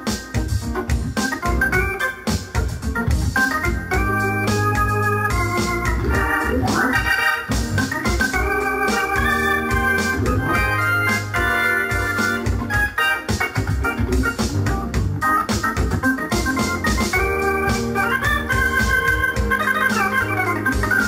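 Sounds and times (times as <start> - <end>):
organ playing chords: 0.0 - 21.0.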